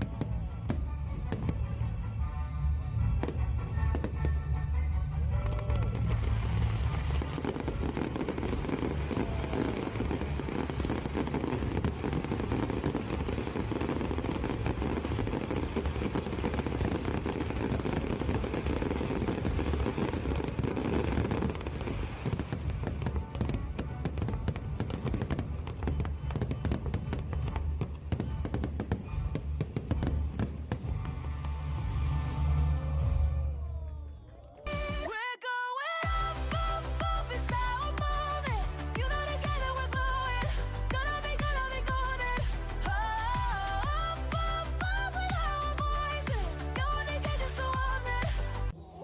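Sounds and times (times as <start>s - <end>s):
fireworks bursts and crackling: 0.0s - 1.8s, 5.4s - 32.6s, 36.0s - 48.7s
deep rumble of fireworks: 0.0s - 34.0s, 36.1s - 48.8s
music: 0.0s - 49.0s.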